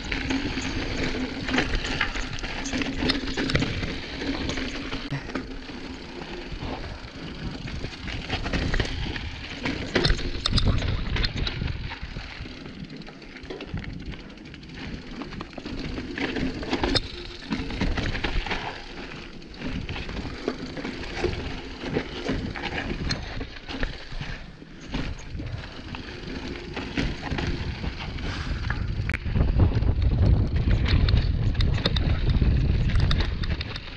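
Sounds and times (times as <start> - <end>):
tyres crunching over gravel: 0.0 - 29.2
bike clattering and knocking: 0.0 - 33.9.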